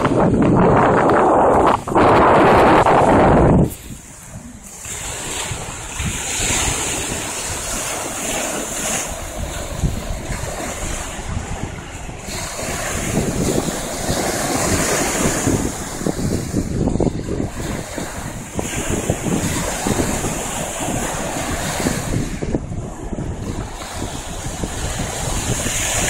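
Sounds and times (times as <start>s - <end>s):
surf washing onto beach: 0.0s - 26.0s
wind buffeting microphone: 0.0s - 26.0s.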